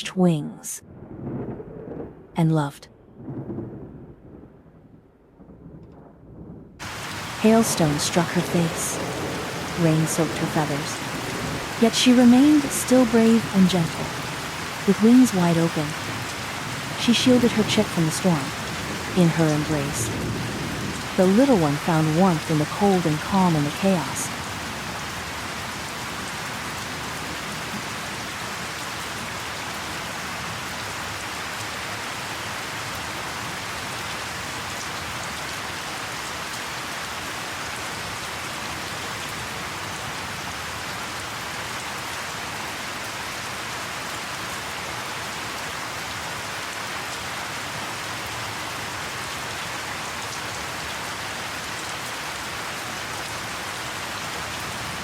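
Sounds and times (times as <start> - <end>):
heavy rain falling: 5.4 - 55.0.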